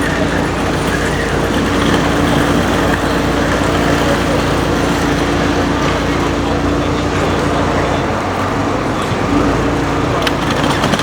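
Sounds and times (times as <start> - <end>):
steady traffic: 0.0 - 11.0
vehicle engine running: 0.0 - 11.0.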